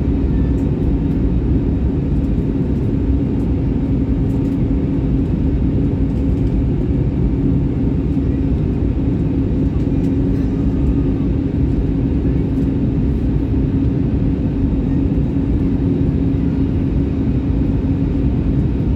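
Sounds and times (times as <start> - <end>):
airliner engine drone in cabin: 0.0 - 18.9.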